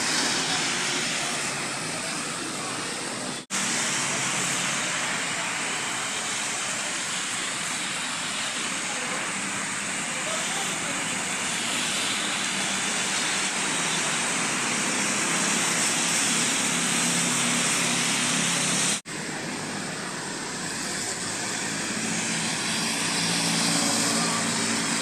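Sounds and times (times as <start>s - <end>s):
tyres hissing on wet road: 0.0s - 25.0s.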